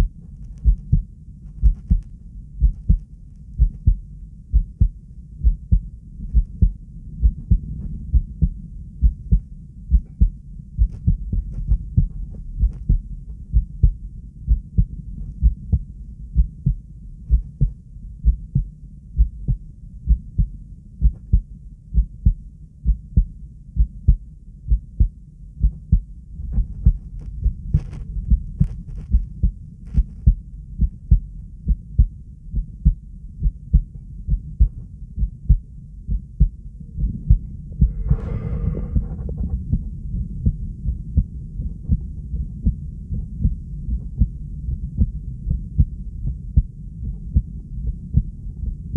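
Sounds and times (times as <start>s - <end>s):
slow heartbeat thuds: 0.0s - 48.9s.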